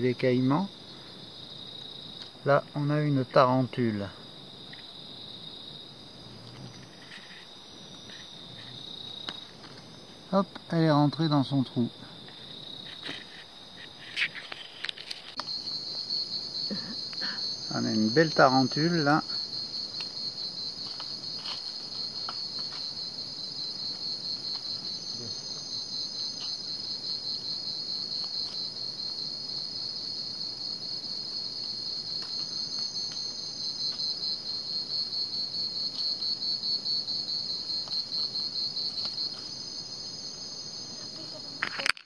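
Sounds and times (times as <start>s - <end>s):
higher insect trill: 0.0s - 42.0s
night insects trilling: 0.0s - 42.0s.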